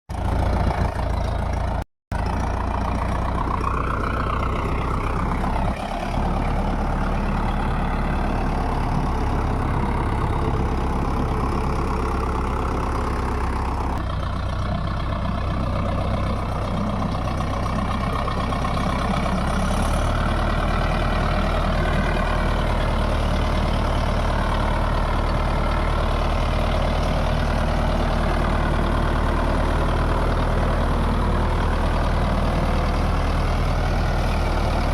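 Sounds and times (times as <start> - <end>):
tractor diesel engine droning: 0.1 - 34.9.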